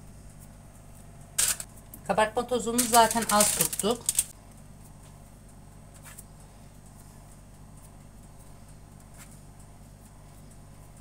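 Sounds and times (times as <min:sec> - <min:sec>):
oven fan humming: 0:00.0 - 0:11.0.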